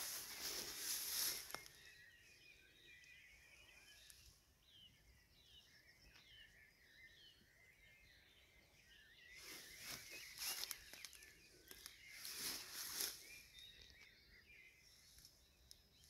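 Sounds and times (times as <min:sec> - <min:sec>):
faint birdsong chirping: 0:00.0 - 0:16.0.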